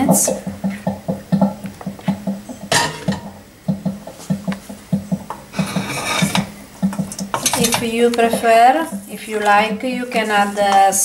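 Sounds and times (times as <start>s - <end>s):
background music with steady beat: 0.0s - 9.2s.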